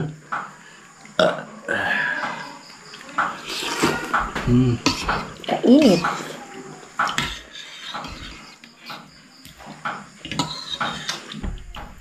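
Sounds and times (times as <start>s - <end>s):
eating and slurping: 1.0s - 12.0s.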